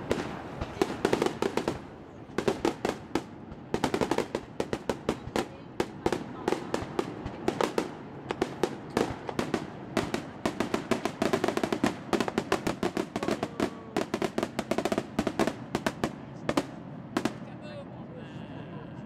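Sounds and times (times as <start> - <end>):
fireworks bursts and bangs: 0.0 - 17.5.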